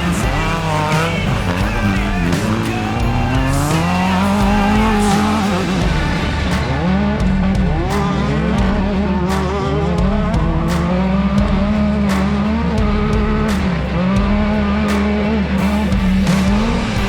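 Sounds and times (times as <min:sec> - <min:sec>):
music with regular beat: 0:00.0 - 0:17.0
race car engine revving: 0:00.0 - 0:17.0.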